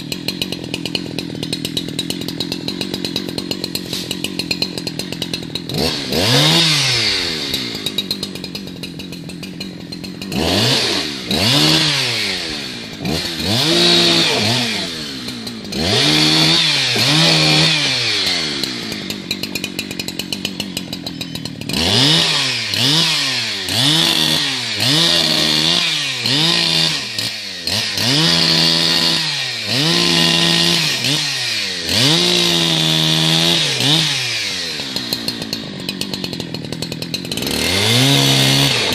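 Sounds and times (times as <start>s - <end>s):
chainsaw revving and idling: 0.0s - 38.9s.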